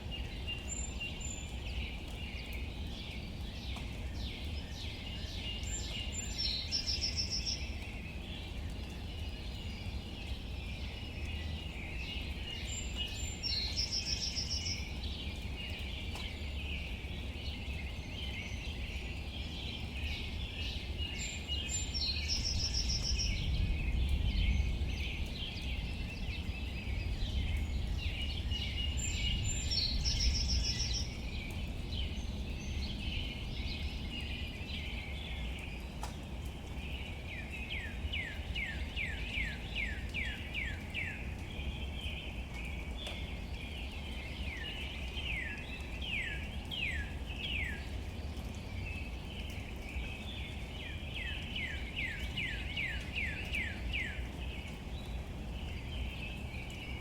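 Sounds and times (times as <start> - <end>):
light rain falling on leaves: 0.0 - 57.0.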